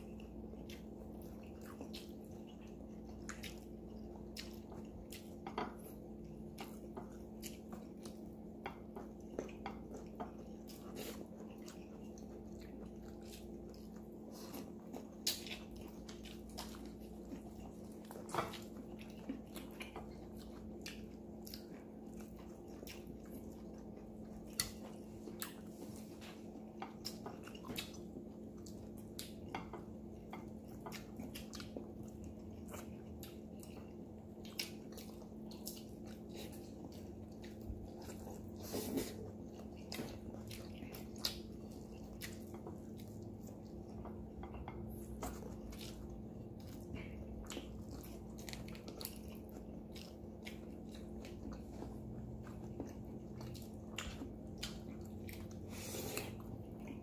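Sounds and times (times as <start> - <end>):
chewing: 0.0 - 57.0
steady low hum: 0.0 - 57.0.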